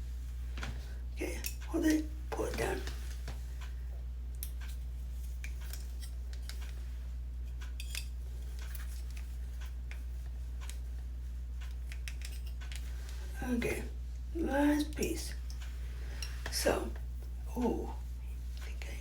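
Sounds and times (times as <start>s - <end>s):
steady low hum: 0.0s - 19.0s
small clicks and rustles of hair: 0.3s - 19.0s.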